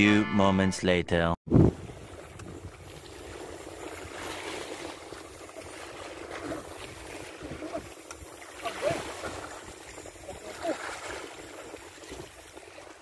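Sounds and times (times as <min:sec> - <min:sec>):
waves lapping on rocky shore: 0:01.8 - 0:13.0.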